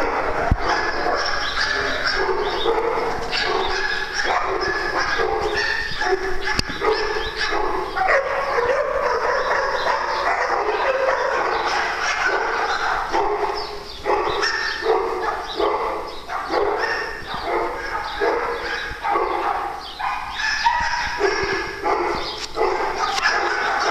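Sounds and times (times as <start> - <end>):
dogs barking and whining: 0.0 - 23.9.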